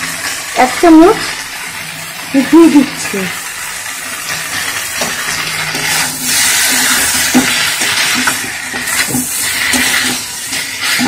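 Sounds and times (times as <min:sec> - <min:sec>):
spatula scraping pan: 0:00.0 - 0:11.0
vegetables sizzling in fat: 0:00.0 - 0:11.0.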